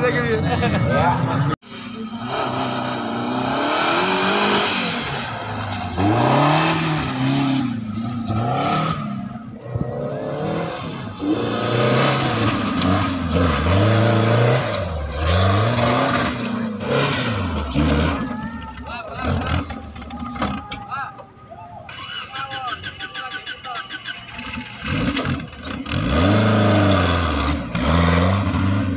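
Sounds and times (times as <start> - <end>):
buggy engine revving: 0.0 - 20.8, 21.9 - 28.9.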